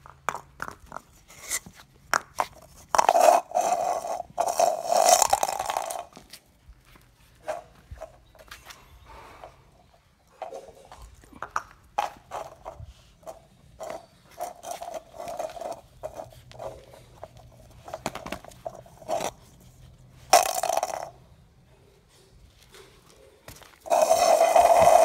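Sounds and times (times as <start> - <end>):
puppies chewing and scraping: 0.0 - 20.4.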